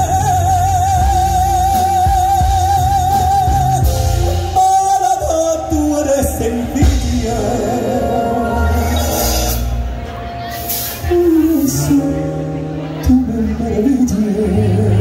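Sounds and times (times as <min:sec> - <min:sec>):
man singing with vibrato: 0:00.0 - 0:09.7, 0:11.0 - 0:15.0
band accompaniment: 0:00.0 - 0:15.0.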